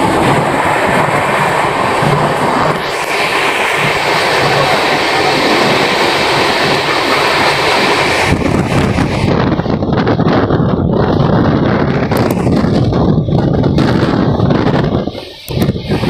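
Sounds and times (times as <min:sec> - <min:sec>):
air rushing past: 0:00.0 - 0:16.0
train wheels rumbling on rails: 0:00.0 - 0:16.0.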